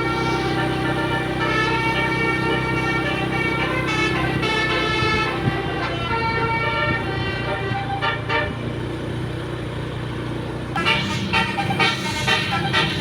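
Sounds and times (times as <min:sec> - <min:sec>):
bus musical horn playing: 0:00.0 - 0:09.2, 0:10.7 - 0:13.0
bus engine running: 0:00.0 - 0:13.0.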